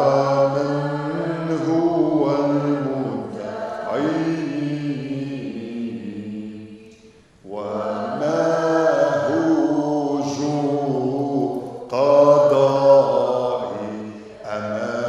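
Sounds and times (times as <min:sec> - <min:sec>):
voices singing a chant-like hymn: 0:00.0 - 0:15.0.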